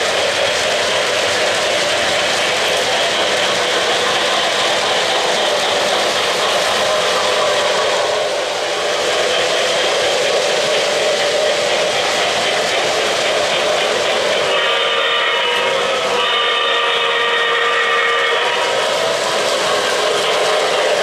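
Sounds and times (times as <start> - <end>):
model train cars rolling on rails: 0.0 - 21.0.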